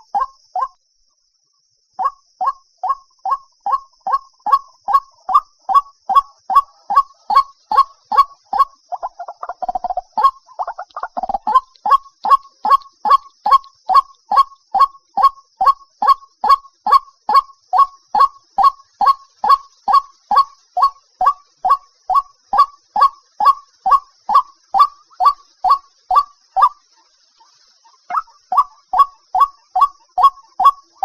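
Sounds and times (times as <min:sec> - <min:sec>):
waterhen calling: 0:02.8 - 0:26.8, 0:27.4 - 0:31.0.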